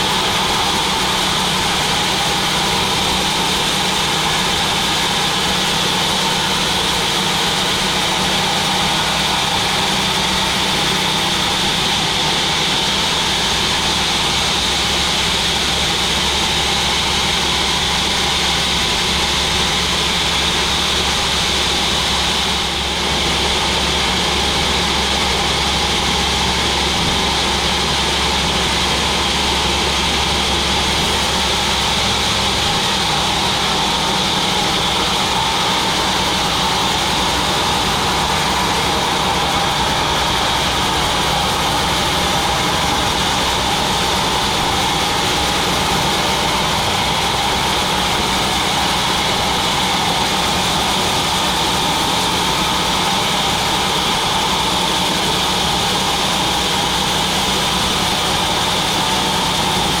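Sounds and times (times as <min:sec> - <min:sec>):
sawmill machine drone: 0:00.0 - 1:00.0.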